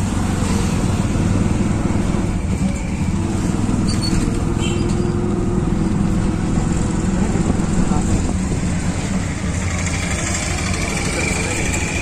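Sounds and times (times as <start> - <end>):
auto-rickshaw engine running: 0.0 - 12.0
road and traffic noise: 0.0 - 12.0.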